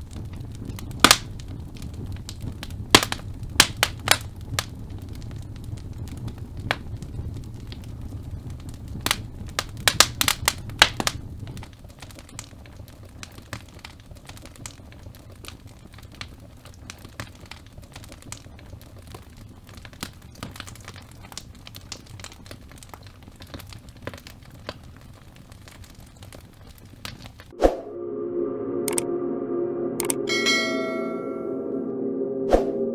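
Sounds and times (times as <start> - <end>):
logs crackling in fireplace: 0.0 - 27.5
low rumble of flame: 0.0 - 27.6.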